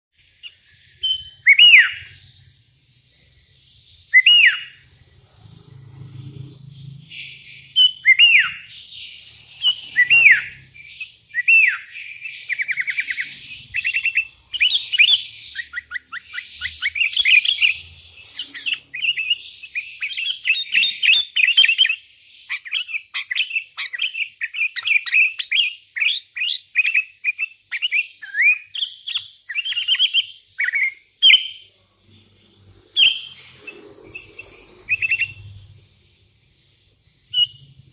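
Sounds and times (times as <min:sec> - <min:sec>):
bulbul singing: 0:00.2 - 0:37.9.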